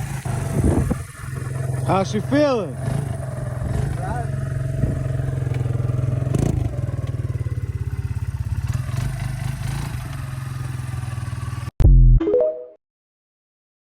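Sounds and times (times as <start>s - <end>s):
small engine running: 0.0s - 11.7s.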